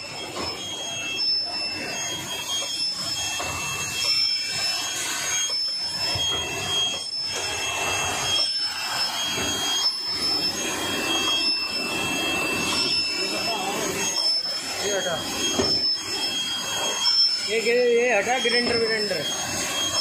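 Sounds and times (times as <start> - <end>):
high-pitched machine squeaks: 0.0 - 20.0.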